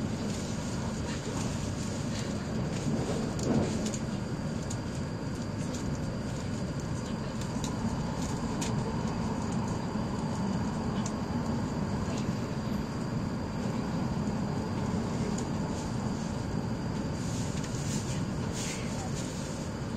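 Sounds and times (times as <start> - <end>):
train running noise in cabin: 0.0 - 19.9.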